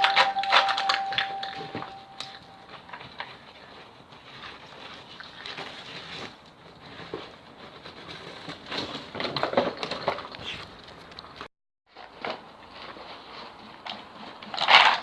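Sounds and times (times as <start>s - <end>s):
rustling tapping and crunching: 0.0s - 15.0s.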